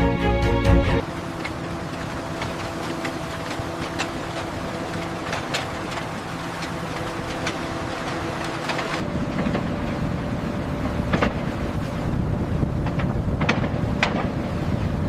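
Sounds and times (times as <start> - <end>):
heavy machinery humming: 0.0 - 15.0
deep wind-like rumble: 0.9 - 15.0.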